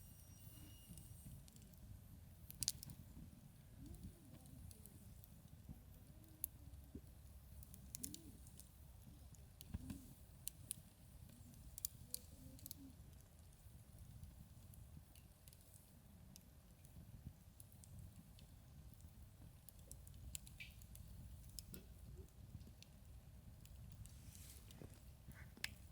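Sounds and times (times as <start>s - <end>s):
campfire crackling and popping: 0.1s - 25.9s.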